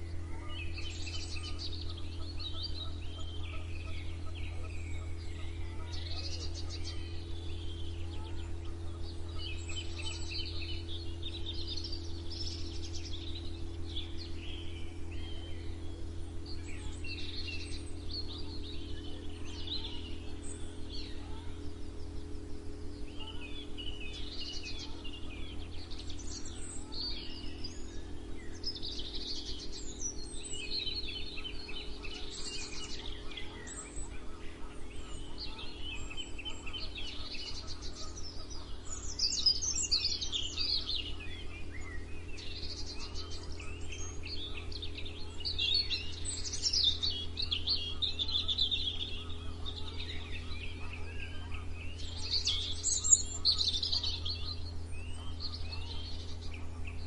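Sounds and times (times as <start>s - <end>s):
songbirds singing and chirping: 0.0s - 57.0s
steady low hum: 0.0s - 57.0s.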